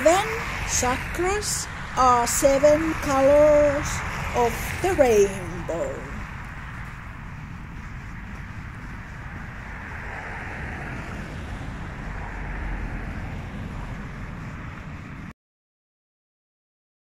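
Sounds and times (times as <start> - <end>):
wind noise on microphone: 0.0 - 15.3.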